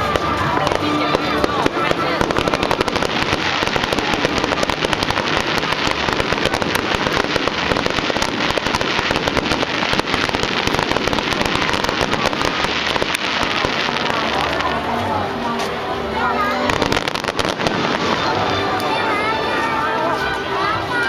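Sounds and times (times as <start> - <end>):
fireworks banging and crackling: 0.0 - 21.0.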